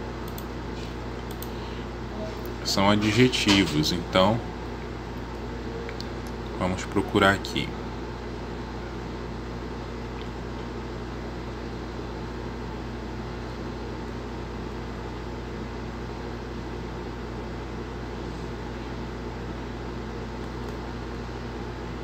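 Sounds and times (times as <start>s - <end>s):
steady low hum with hiss: 0.0s - 22.0s.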